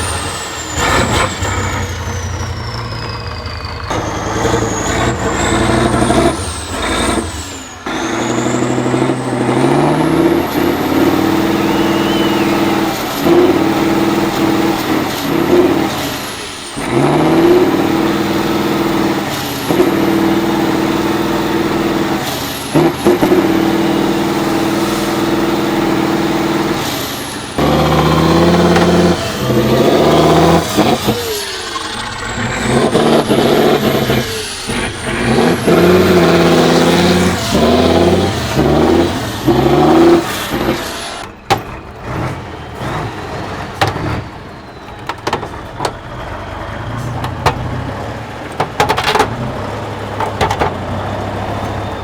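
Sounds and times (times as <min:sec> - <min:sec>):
diesel truck engine revving: 0:00.0 - 0:52.0.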